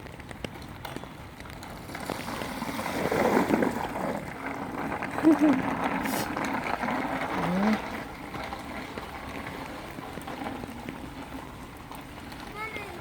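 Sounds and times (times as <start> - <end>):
bicycle tyres splashing through puddles: 0.0 - 13.0.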